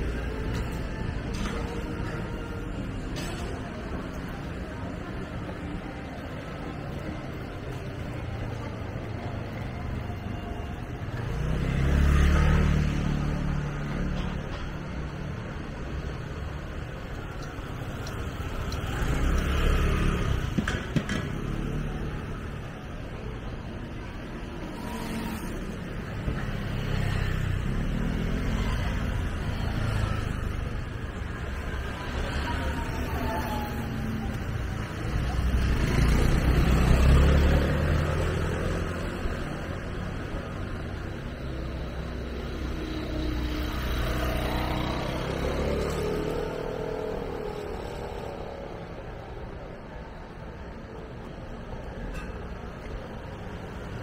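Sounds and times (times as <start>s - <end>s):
vehicles passing close by: 0.0s - 54.0s.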